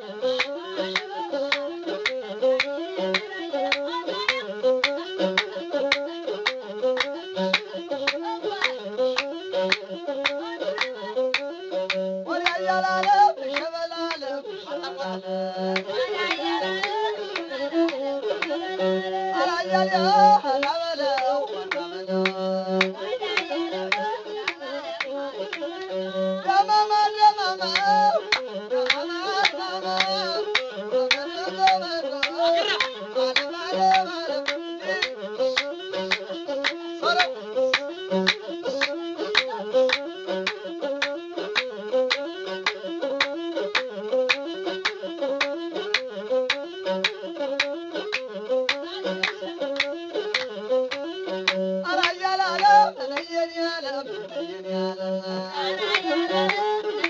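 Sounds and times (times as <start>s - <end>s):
bowed one-string fiddle melody: 0.0s - 57.0s.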